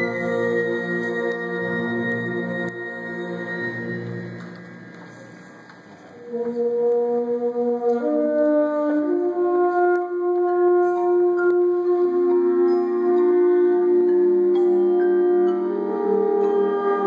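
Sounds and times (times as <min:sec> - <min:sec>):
symphonic band playing held chords: 0:00.0 - 0:17.0.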